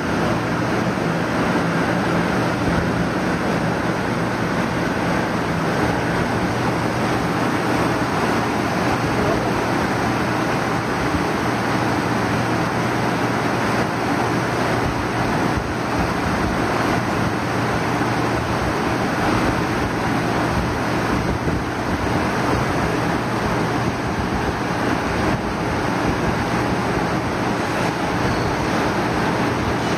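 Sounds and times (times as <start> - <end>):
rushing foaming liquid: 0.0 - 29.9.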